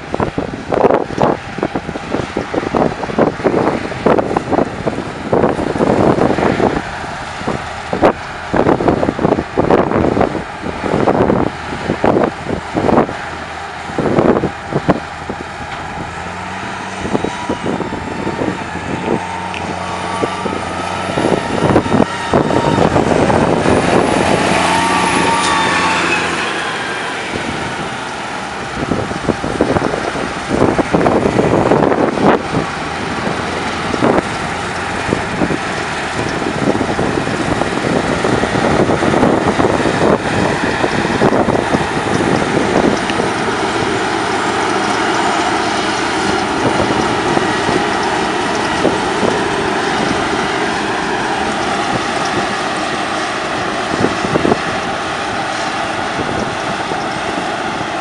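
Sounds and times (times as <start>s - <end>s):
engine drone: 0.0s - 58.0s
high whine: 0.0s - 58.0s
wind buffeting microphone: 0.0s - 58.0s.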